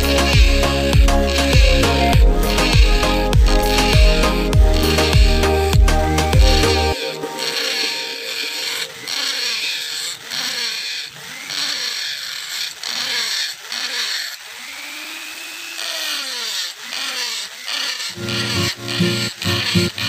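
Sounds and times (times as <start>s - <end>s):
power tool working wood: 0.0s - 20.0s.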